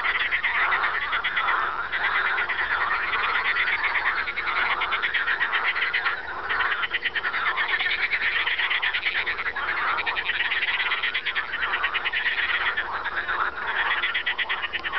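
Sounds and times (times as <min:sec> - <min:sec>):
frogs calling in pulsed trains: 0:00.0 - 0:14.9.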